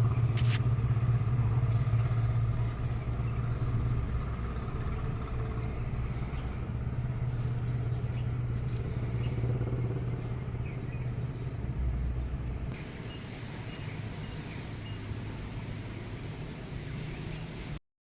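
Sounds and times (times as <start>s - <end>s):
low engine hum: 0.0s - 17.8s.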